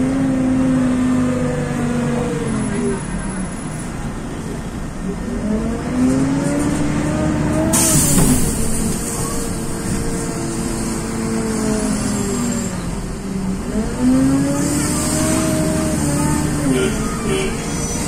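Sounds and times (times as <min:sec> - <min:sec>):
bus engine: 0:00.0 - 0:18.0.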